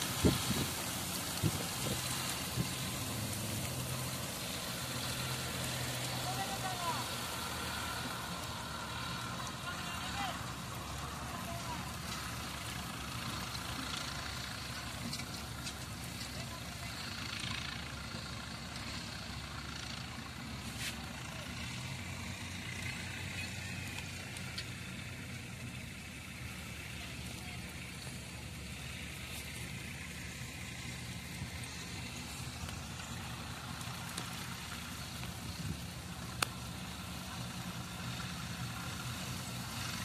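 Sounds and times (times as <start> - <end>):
distant tractor engines running: 0.0 - 40.0.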